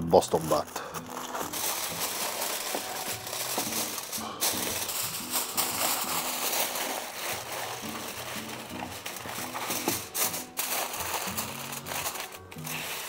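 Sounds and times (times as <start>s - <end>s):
background music: 0.0s - 13.0s
aluminium foil rustling and crinkling: 0.2s - 13.0s.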